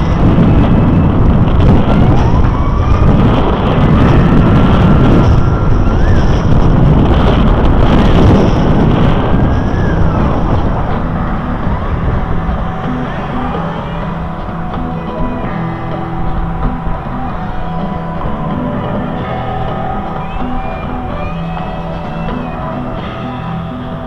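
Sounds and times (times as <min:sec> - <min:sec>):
tyre and road rumble: 0:00.0 - 0:24.0
wind rushing over microphone: 0:00.0 - 0:24.0.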